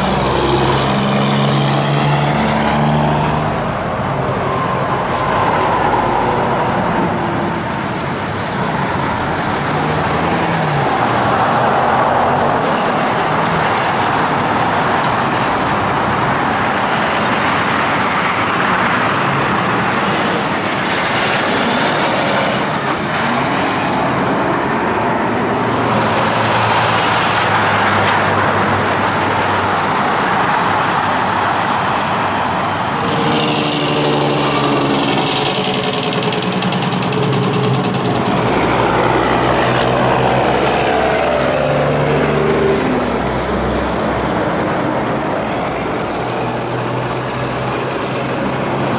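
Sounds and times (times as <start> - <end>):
low engine drone: 0.0 - 48.9
trucks passing on highway: 0.0 - 48.9.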